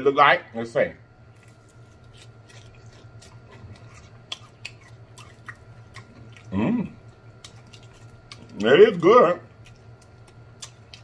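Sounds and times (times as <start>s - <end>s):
crunchy chewing: 1.3s - 11.0s.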